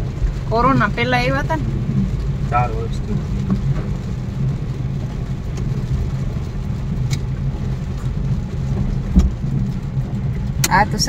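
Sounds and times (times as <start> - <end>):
car driving hum inside cabin: 0.0 - 11.0.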